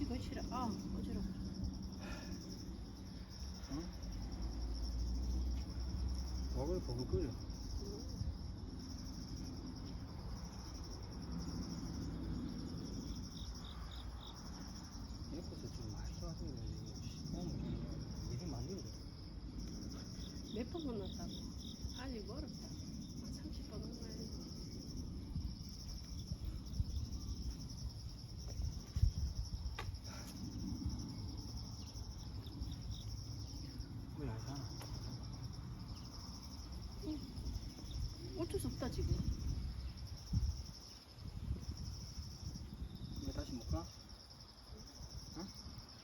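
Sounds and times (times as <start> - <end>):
insect chorus trilling: 0.0 - 46.0.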